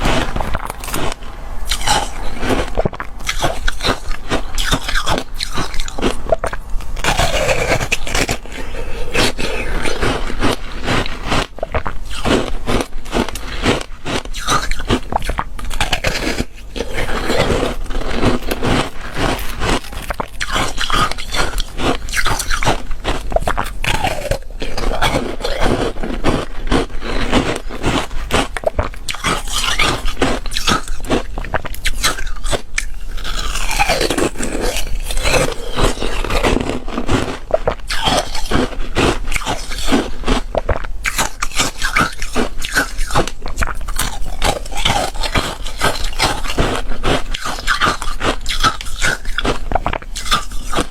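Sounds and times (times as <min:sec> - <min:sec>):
chewing crunchy foam ice: 0:00.0 - 0:50.9.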